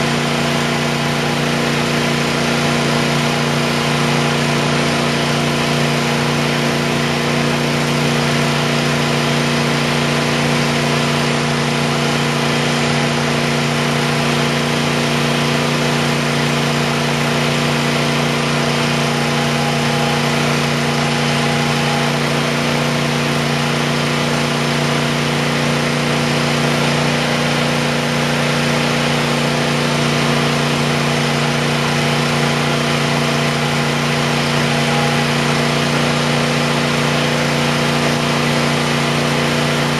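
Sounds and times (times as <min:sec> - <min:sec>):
chipper shredder engine running: 0:00.0 - 0:39.9.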